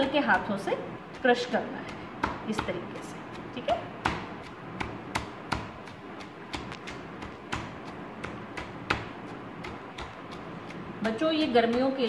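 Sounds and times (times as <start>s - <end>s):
pestle tapping in bowl: 0.0s - 12.0s
pestle knock: 0.2s - 12.0s.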